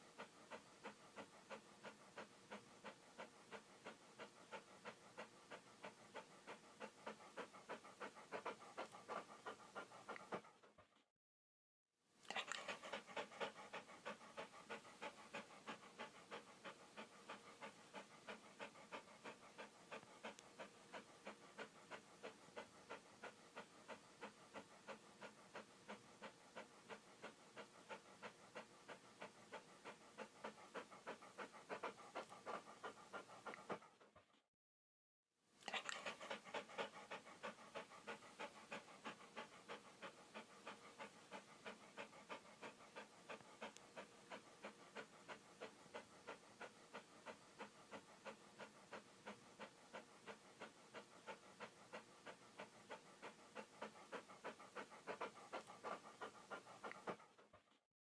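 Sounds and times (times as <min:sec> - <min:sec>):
dog panting: 0:00.0 - 0:11.1, 0:12.3 - 0:34.5, 0:35.6 - 0:57.8.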